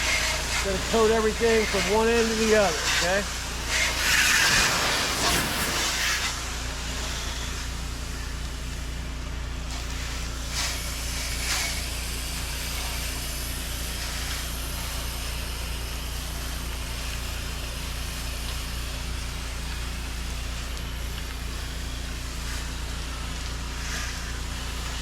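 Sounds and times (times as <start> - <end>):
pressure washer engine drone: 0.0 - 25.0
water spraying hiss: 0.0 - 25.0.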